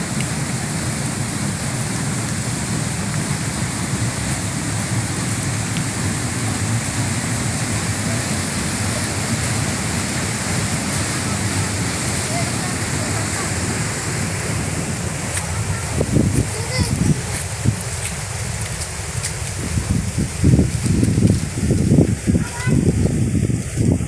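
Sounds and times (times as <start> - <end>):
fast-flowing water rushing: 0.0 - 24.0.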